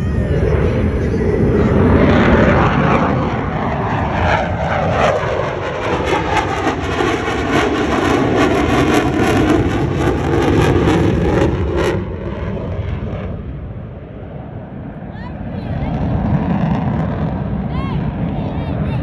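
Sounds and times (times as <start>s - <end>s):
fighter jet flying past: 0.0s - 19.0s.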